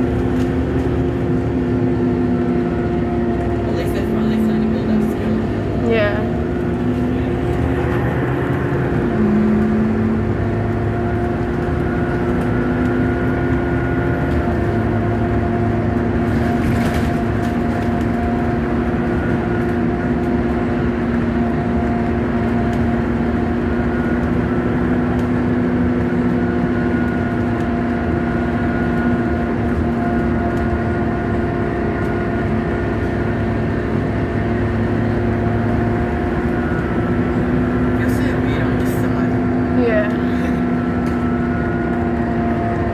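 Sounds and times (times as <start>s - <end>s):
bus engine drone with whining: 0.0s - 42.9s.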